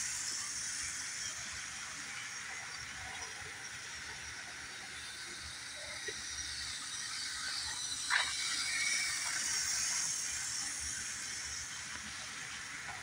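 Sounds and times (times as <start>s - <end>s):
model train whirring rattle: 0.0s - 13.0s.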